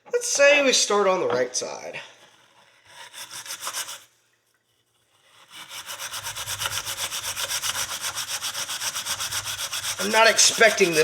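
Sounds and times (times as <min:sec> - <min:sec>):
steel wool scrubbing metal: 0:01.6 - 0:11.0.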